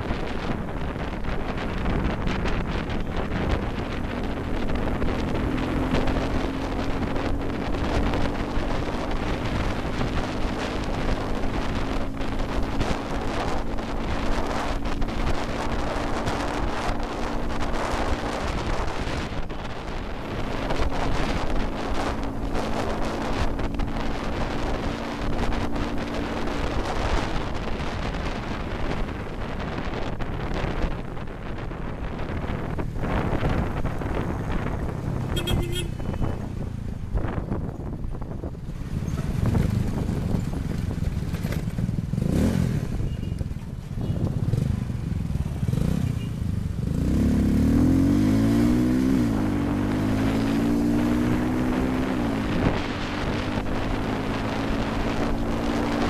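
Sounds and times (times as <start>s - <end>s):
motorcycle engine hum: 0.0s - 56.0s
wind buffeting microphone: 0.0s - 56.0s.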